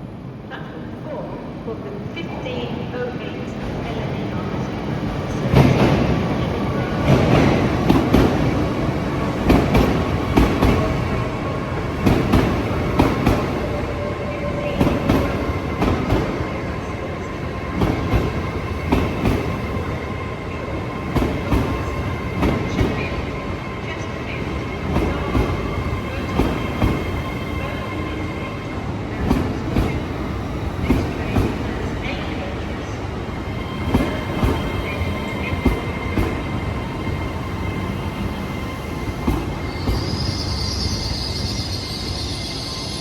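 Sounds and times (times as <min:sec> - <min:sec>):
train rumble: 0:00.0 - 0:43.0.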